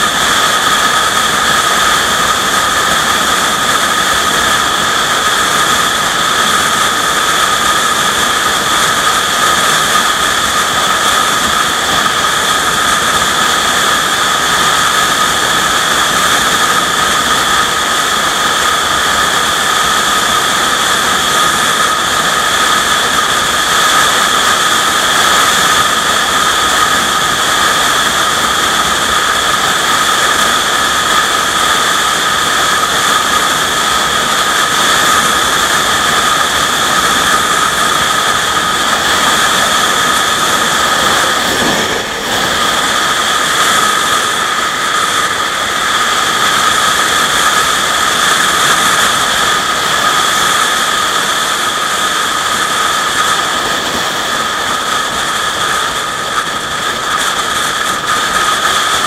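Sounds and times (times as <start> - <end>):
high-pitched whine: 0.0 - 59.0
loud rushing noise: 0.0 - 59.0.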